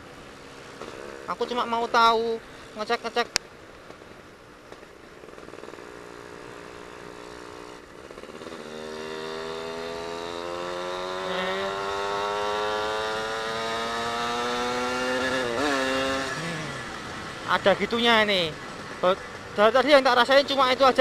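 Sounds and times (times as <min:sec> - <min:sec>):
two-stroke motorcycle engine revving: 0:00.2 - 0:03.4, 0:04.7 - 0:21.0.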